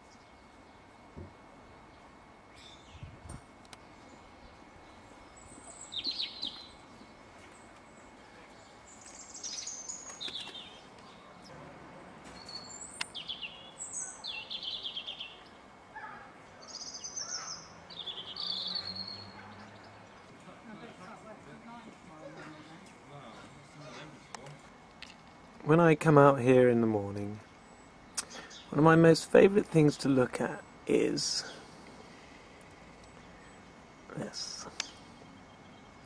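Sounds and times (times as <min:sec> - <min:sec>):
songbirds singing: 0:00.0 - 0:21.2, 0:22.4 - 0:36.0.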